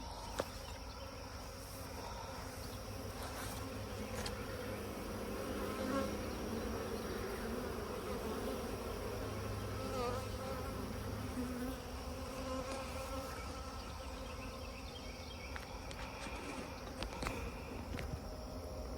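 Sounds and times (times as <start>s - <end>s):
bees buzzing: 0.0s - 18.9s.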